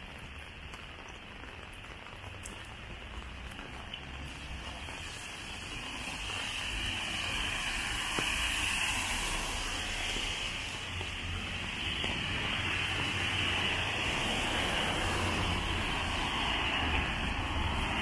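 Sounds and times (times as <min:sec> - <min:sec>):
rain on wet pavement: 0:00.0 - 0:18.0.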